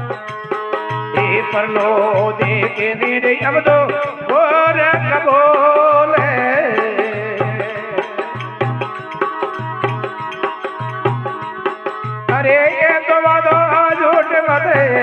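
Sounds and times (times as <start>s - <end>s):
harmonium chords: 0.0s - 15.0s
man singing: 0.1s - 15.0s.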